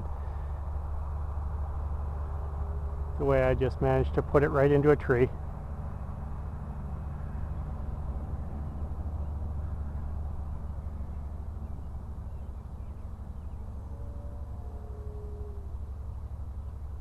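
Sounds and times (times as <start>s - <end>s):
faint whine: 0.0s - 17.0s.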